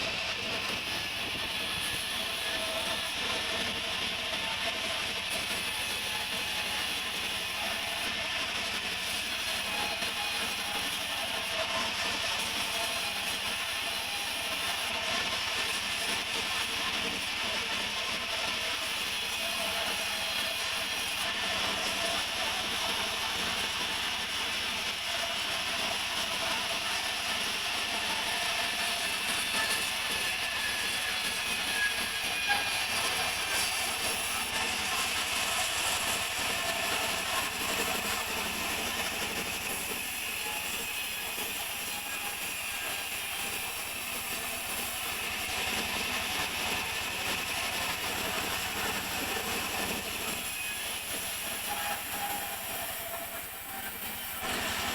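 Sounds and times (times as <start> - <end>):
sawmill saw cutting a log: 0.0 - 54.9.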